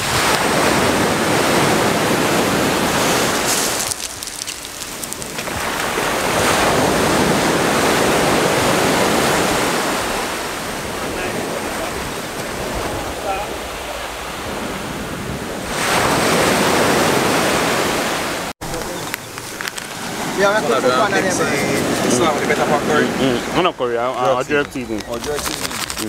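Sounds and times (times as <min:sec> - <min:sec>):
sea waves breaking on beach: 0:00.0 - 0:23.7.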